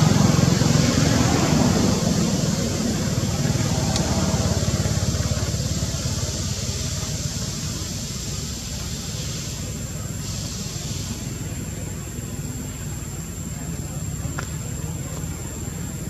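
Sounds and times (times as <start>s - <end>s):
vehicle engine running low: 0.0s - 16.0s.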